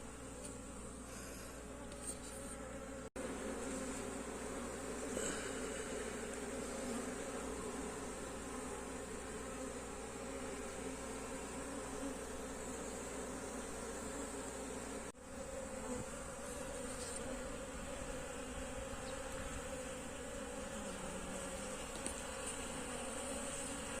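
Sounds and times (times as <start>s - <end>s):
honeybees buzzing around hive: 0.0s - 24.0s.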